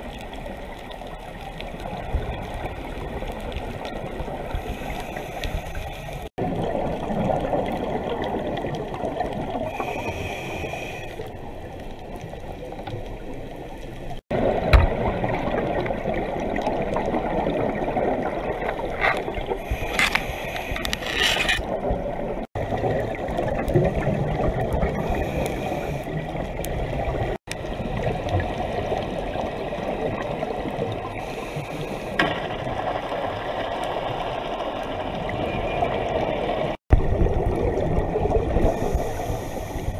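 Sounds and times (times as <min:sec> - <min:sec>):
underwater bubbles gurgling: 0:00.0 - 0:39.9
underwater water noise: 0:00.0 - 0:39.9.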